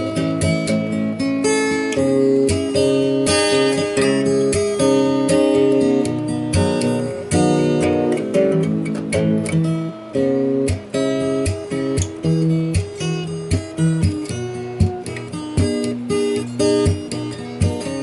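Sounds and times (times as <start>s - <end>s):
acoustic guitar strumming and picking: 0.0s - 18.0s.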